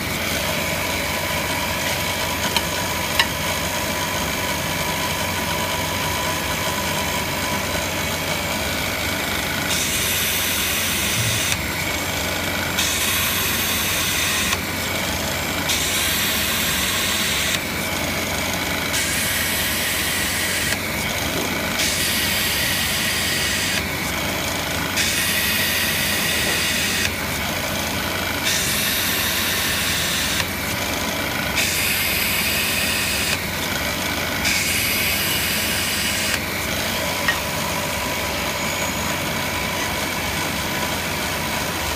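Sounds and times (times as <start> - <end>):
drill press motor running: 0.0 - 41.9.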